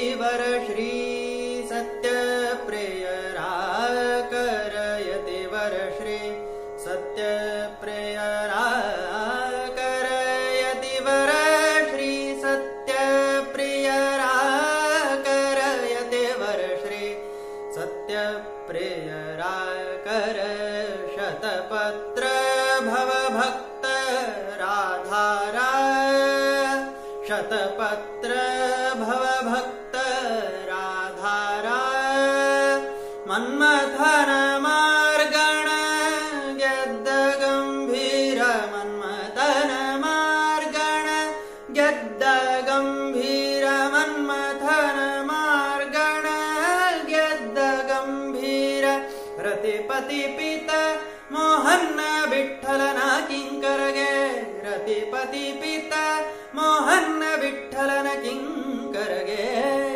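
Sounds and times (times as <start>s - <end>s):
man singing devotional song: 0.0s - 59.9s.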